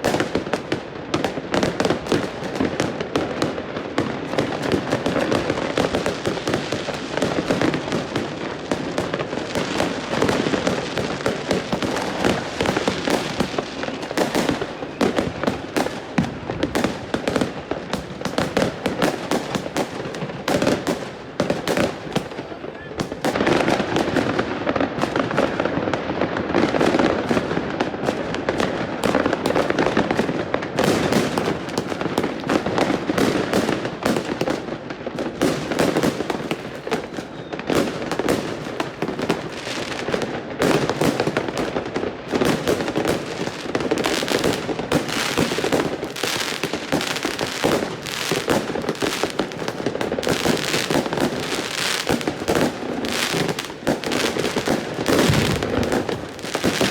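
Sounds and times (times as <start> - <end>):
fireworks and firecrackers banging: 0.0 - 56.9.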